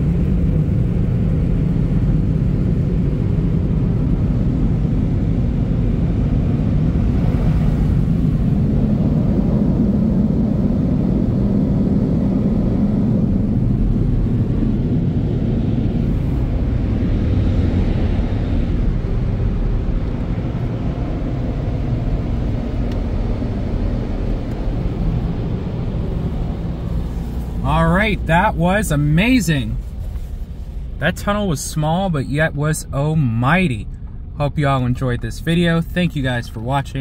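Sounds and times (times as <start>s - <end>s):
car wash blower dryers rumbling: 0.0s - 37.0s.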